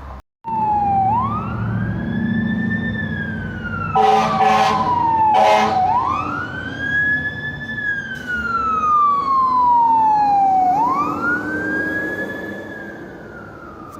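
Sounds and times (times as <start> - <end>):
electronic siren wailing: 0.5 - 13.9.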